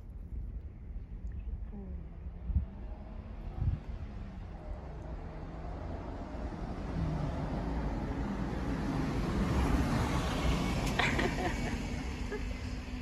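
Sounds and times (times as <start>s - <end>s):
vehicle approaching on road: 0.8s - 13.0s.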